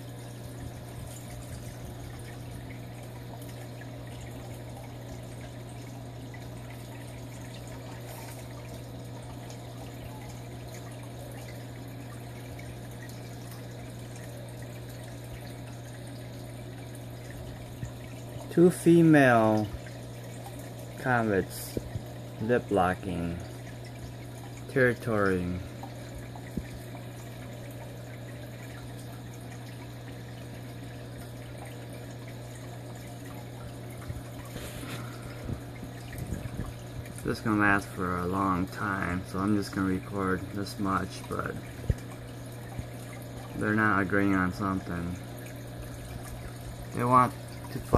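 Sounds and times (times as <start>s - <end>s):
aquarium equipment humming: 0.0s - 47.9s
water trickling and splashing: 0.0s - 47.9s.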